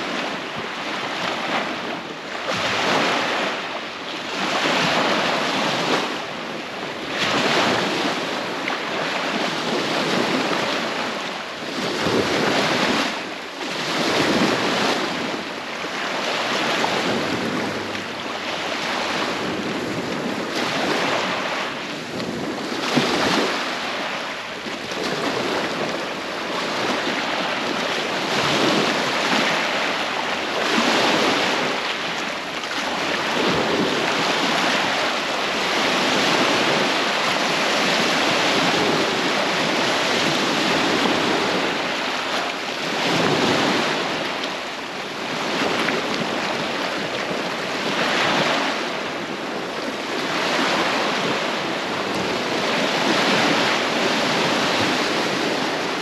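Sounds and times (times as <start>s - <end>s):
waves lapping on sand and rocks: 0.0s - 56.0s.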